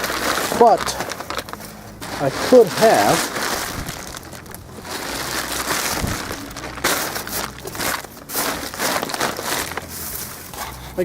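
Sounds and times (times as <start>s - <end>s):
footsteps crunching on dry leaves: 0.0s - 11.0s.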